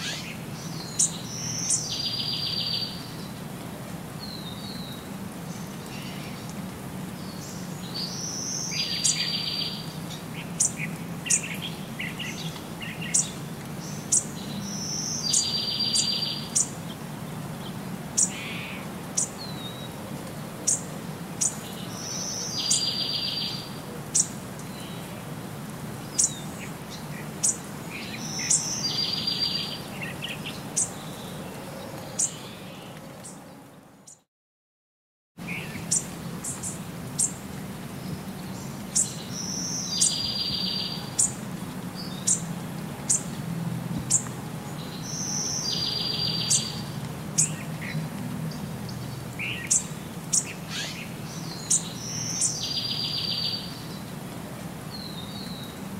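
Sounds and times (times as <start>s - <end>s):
songbirds chirping: 0.0s - 34.3s, 35.4s - 55.9s.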